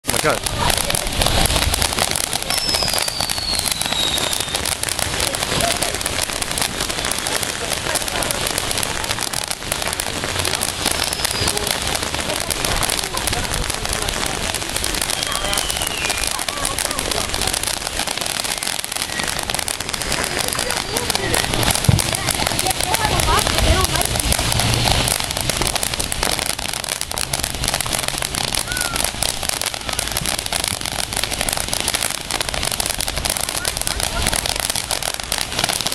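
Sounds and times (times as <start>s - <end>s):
fountain firework hissing and crackling: 0.0s - 35.9s.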